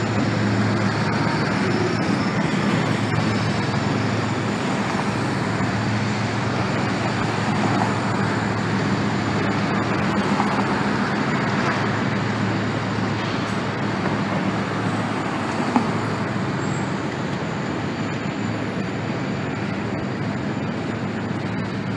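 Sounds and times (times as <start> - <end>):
freight train rumbling over bridge: 0.0 - 21.9
street traffic: 0.0 - 21.9.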